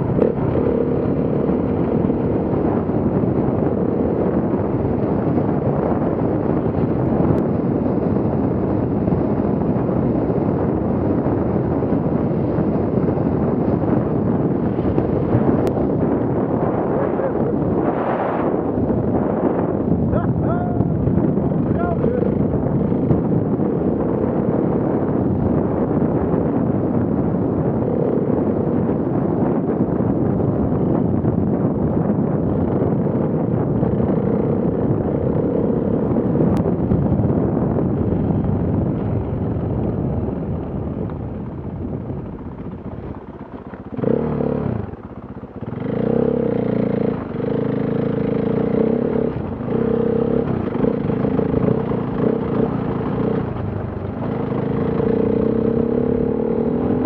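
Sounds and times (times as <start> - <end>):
motorcycle engine revving: 0.0 - 57.0
wind rushing: 0.0 - 57.0.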